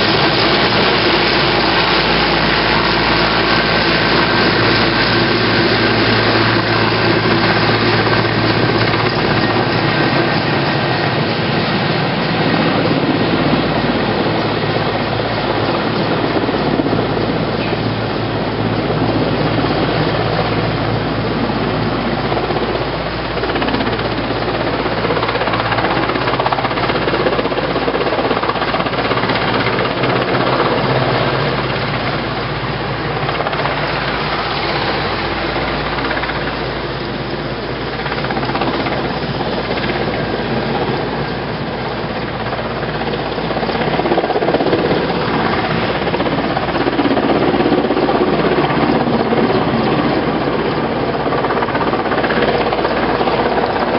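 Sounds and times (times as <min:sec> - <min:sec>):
helicopter rotor and turbine: 0:00.0 - 0:53.9.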